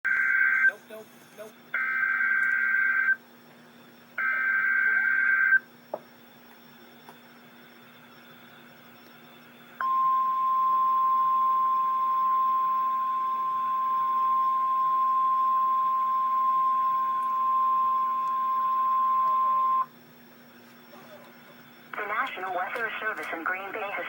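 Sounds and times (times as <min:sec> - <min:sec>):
steady alarm tone: 0:00.1 - 0:01.0, 0:01.7 - 0:03.2, 0:03.9 - 0:24.0.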